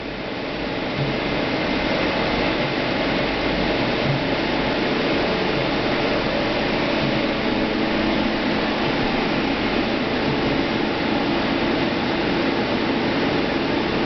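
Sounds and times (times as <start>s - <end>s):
faint hum: 0.0s - 14.0s
lathe mechanical whir: 0.0s - 14.0s.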